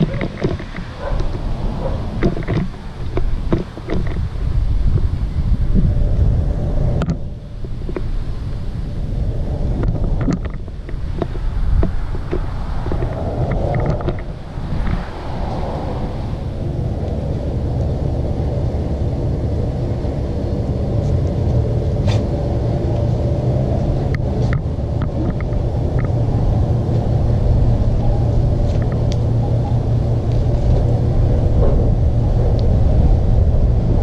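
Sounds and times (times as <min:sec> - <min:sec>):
low engine rumble: 0:00.0 - 0:34.0.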